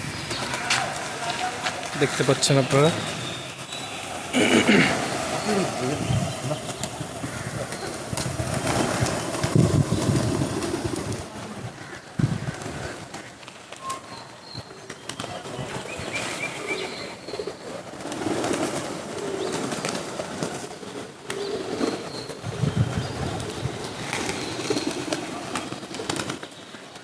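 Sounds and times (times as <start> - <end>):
wings flapping: 0.0 - 16.4, 17.3 - 27.0
pigeons cooing: 0.0 - 26.6.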